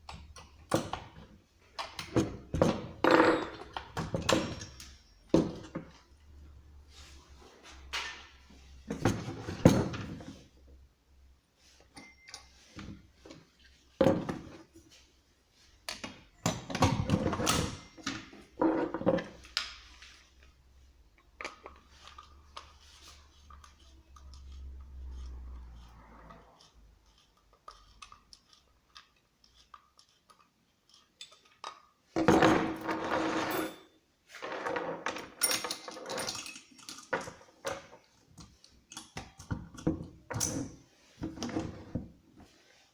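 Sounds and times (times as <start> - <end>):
knocks and clatters of handling: 0.0 - 6.2, 6.9 - 10.5, 11.6 - 15.2, 15.8 - 42.8.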